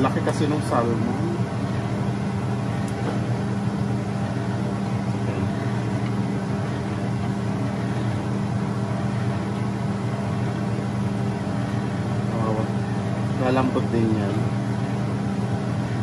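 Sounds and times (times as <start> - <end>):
vent fan humming: 0.0 - 16.0.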